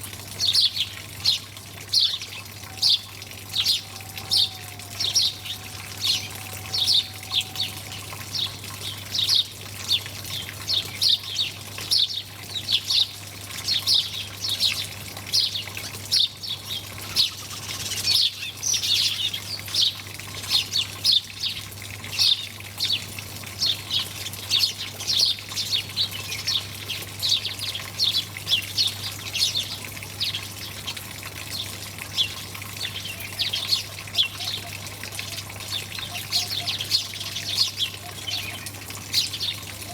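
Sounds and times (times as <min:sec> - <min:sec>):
water trickling: 0:00.0 - 0:39.9
flock of small birds chirping: 0:00.3 - 0:39.9.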